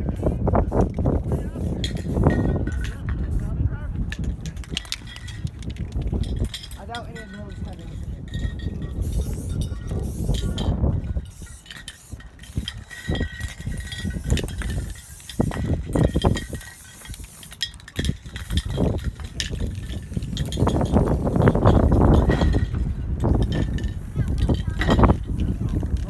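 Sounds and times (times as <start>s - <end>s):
wind buffeting microphone: 0.0s - 26.0s
sharp clicks and clinks: 4.1s - 26.0s.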